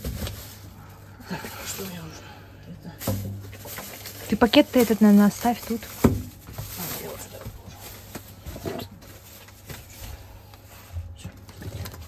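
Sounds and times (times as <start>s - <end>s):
bags rustling and shuffling: 0.0s - 12.0s.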